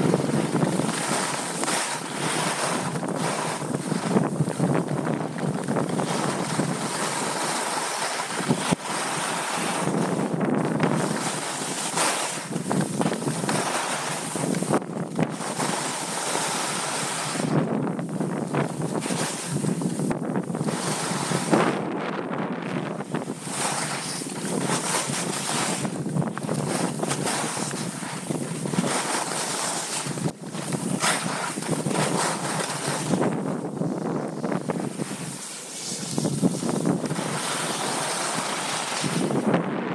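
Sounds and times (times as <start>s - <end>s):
skis sliding on packed snow: 0.0s - 21.9s, 22.7s - 39.8s
wind noise on microphone: 0.0s - 39.9s.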